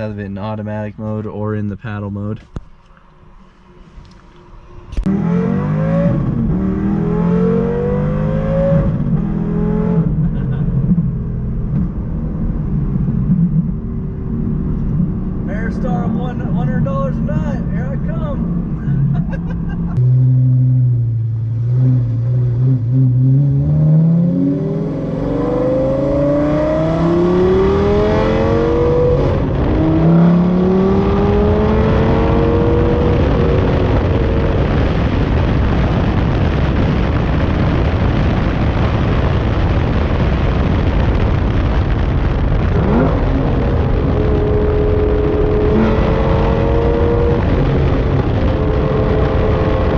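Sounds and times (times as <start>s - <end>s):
road and wind noise: 0.0s - 49.9s
sports car engine accelerating: 3.5s - 49.9s.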